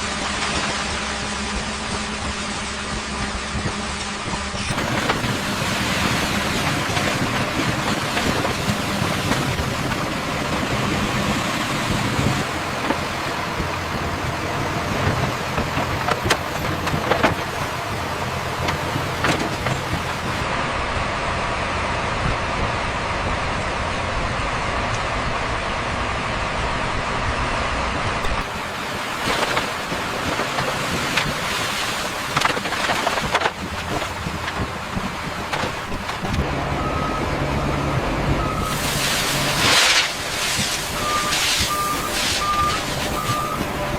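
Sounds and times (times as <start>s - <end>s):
heavy construction machinery: 0.0s - 43.9s.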